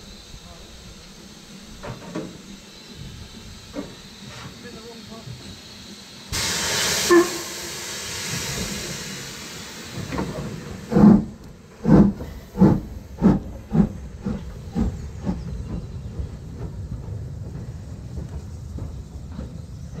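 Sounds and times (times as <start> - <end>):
loud hiss of steam: 0.0 - 20.0
steam locomotive exhaust beats: 0.0 - 20.0.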